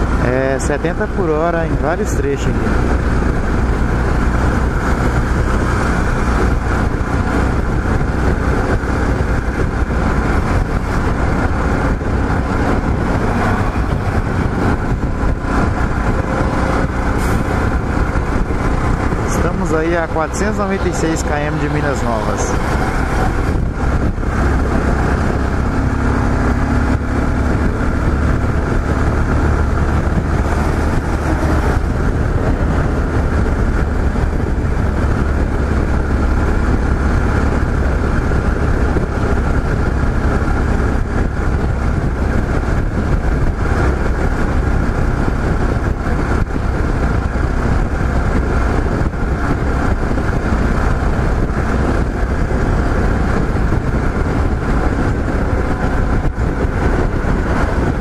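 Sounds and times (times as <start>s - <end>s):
wind and road noise: 0.0s - 58.0s
motorcycle engine running: 2.5s - 58.0s.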